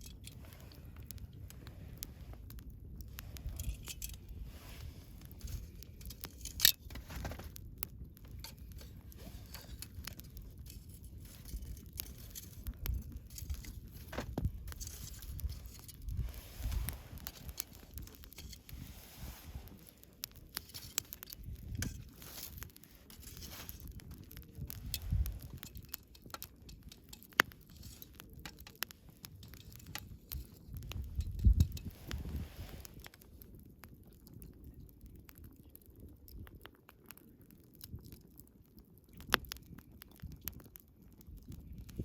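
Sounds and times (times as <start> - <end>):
campfire crackles and pops: 0.0 - 42.0
low rumble of flame: 0.0 - 42.0.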